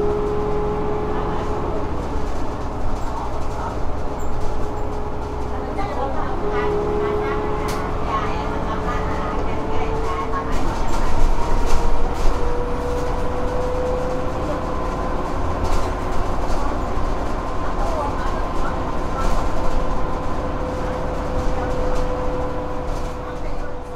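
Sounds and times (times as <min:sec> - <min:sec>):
bus body rattling: 0:00.0 - 0:23.9
bus engine and road rumble: 0:00.0 - 0:23.9.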